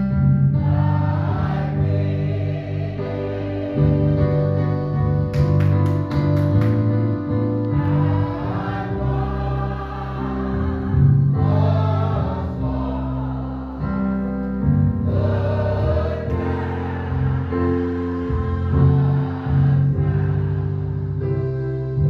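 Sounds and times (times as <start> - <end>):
choir singing a hymn: 0.0 - 6.0, 6.6 - 22.0
keyboard: 0.0 - 22.0.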